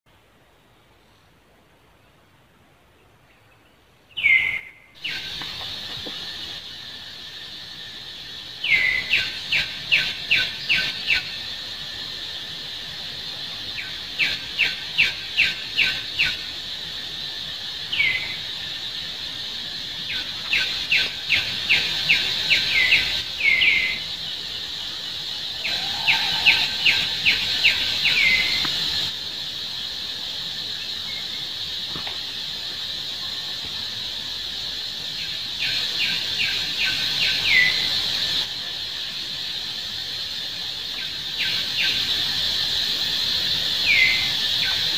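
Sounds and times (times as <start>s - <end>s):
steady high hiss: 0.1s - 44.9s.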